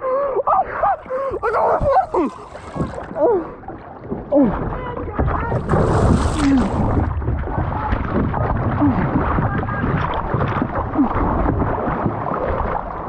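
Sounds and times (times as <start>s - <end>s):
water noise: 0.0s - 13.0s
wind buffeting microphone: 0.8s - 12.3s.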